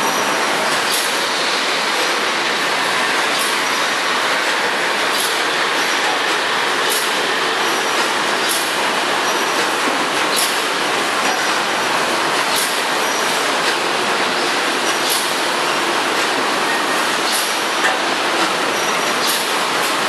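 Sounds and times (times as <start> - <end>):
packaging machinery din: 0.0 - 20.0.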